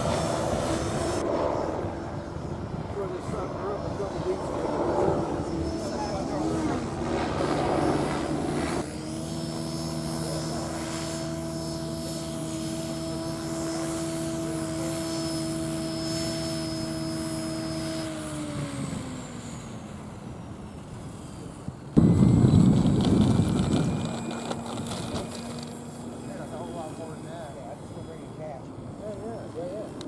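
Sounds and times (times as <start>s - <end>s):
model helicopter droning hum: 0.0s - 30.0s.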